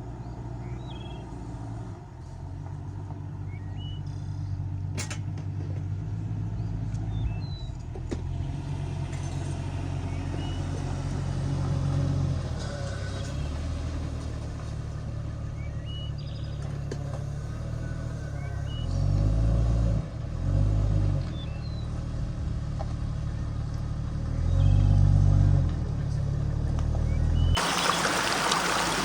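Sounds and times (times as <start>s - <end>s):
vehicle engine idling: 0.0s - 19.4s, 21.2s - 29.0s.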